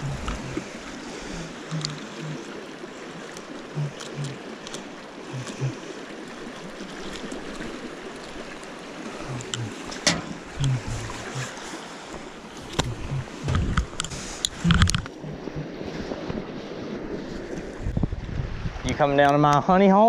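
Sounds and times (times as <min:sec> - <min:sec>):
river water rushing: 0:00.0 - 0:17.8.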